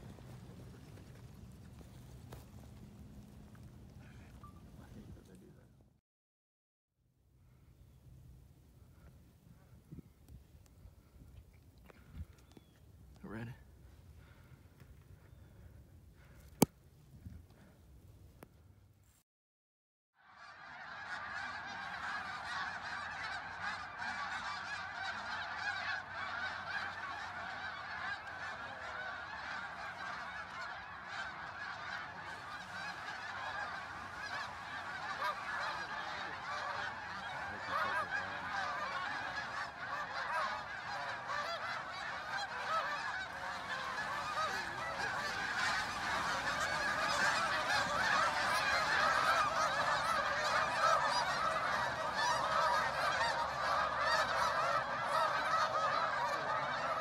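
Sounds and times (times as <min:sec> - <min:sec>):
flock of geese honking: 0:00.0 - 0:05.6, 0:13.2 - 0:16.7, 0:20.2 - 0:57.0.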